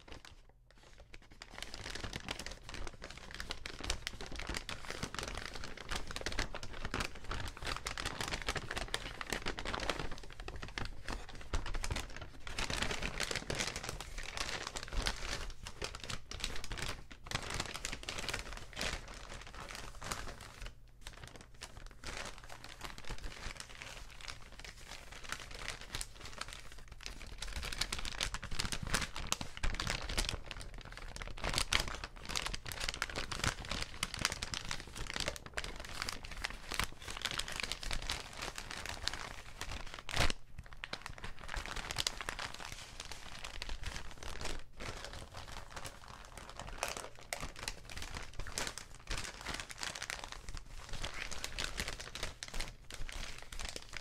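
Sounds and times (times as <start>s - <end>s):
paper bags crinkling: 0.0s - 54.0s.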